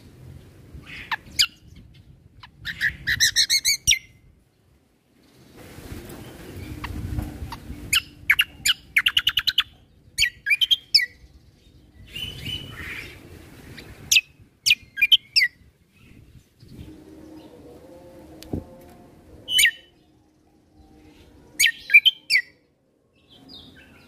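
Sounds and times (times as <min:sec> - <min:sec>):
songbird chirping: 0:00.4 - 0:24.0.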